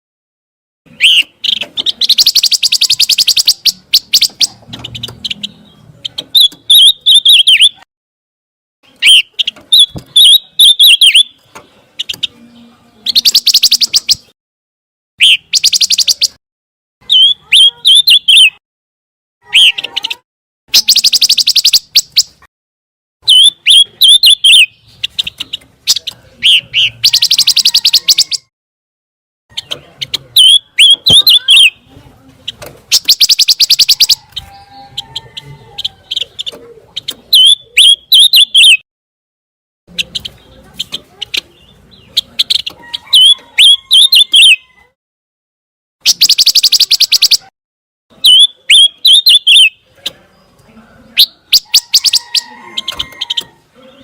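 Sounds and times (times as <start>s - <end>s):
bird chirps and trills: 0.9s - 7.9s, 8.8s - 14.4s, 15.2s - 16.4s, 17.0s - 18.6s, 19.4s - 22.5s, 23.2s - 28.5s, 29.5s - 38.8s, 39.9s - 44.8s, 46.0s - 47.5s, 48.1s - 50.6s, 51.2s - 54.0s.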